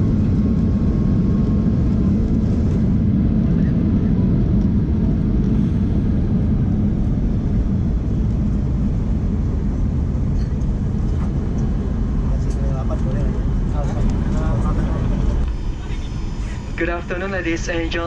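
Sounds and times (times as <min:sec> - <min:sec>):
airplane cabin low rumble: 0:00.0 - 0:18.0.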